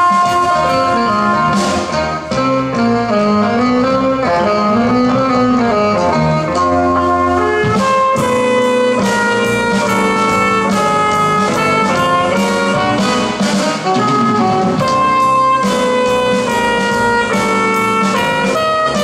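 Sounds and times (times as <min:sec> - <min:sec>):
bass guitar: 0:00.0 - 0:19.0
drum kit: 0:00.0 - 0:19.0
saxophone: 0:00.0 - 0:19.0
trumpet: 0:00.0 - 0:19.0.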